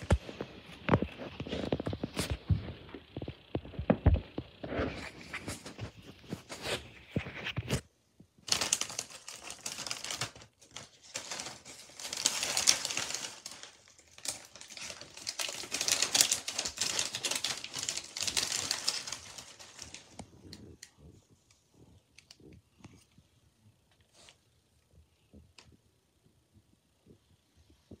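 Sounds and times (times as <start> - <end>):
crinkling and rustling: 0.0 - 23.3.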